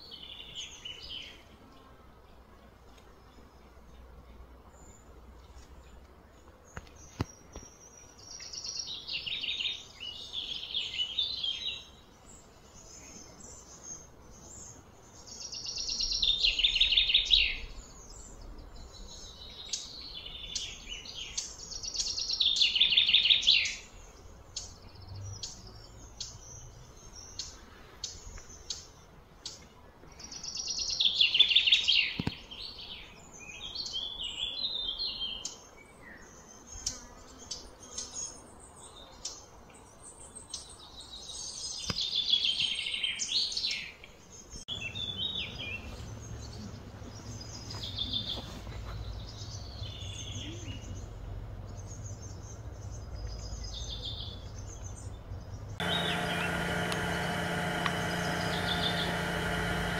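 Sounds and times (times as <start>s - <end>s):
soft bird chirps: 4.7s - 59.9s.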